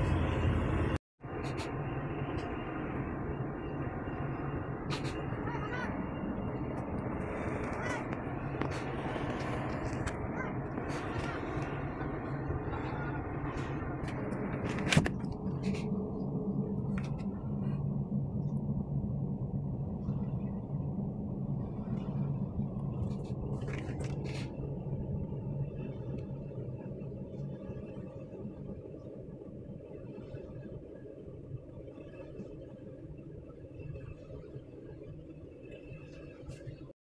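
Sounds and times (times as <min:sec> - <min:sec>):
diesel engine drone: 0:00.0 - 0:31.8
wind on microphone: 0:03.2 - 0:36.9.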